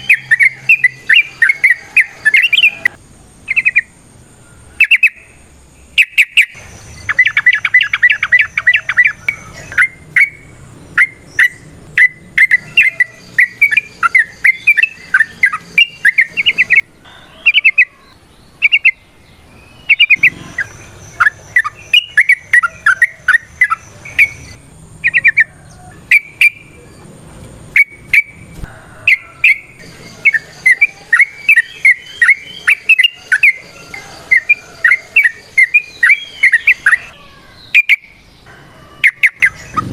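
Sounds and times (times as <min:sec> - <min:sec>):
bulbul singing chattering song: 0:00.0 - 0:39.9.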